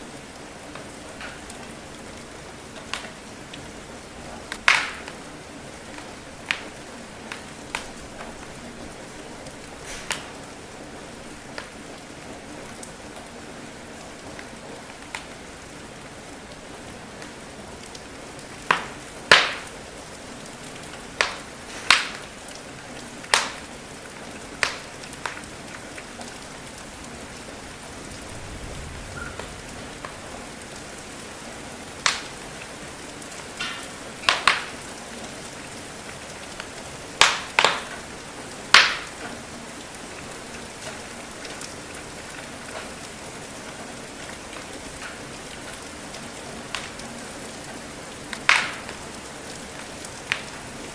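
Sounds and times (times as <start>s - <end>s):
rain patter: 0.0s - 50.9s
wood fire crackling: 0.0s - 50.9s.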